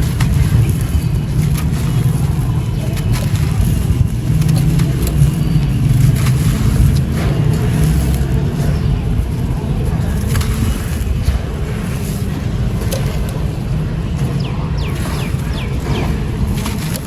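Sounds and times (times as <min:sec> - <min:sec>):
dirt lumps crunching: 0:00.0 - 0:17.0
heavy low rumble: 0:00.0 - 0:17.0.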